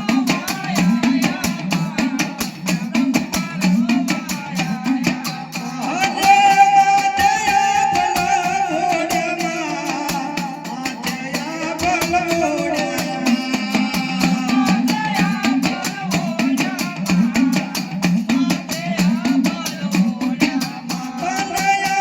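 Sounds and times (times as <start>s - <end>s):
quick drum strokes: 0.0s - 22.0s.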